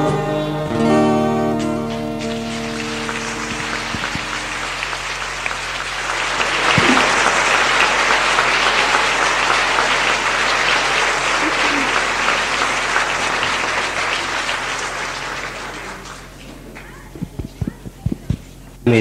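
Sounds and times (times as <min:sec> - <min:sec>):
crowd applauding: 0:01.5 - 0:18.6.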